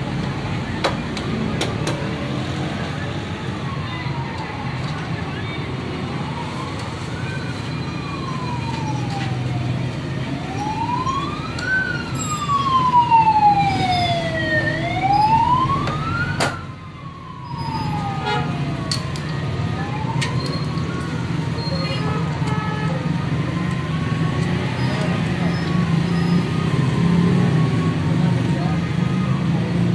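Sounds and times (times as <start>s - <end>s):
siren wailing: 2.6s - 29.9s.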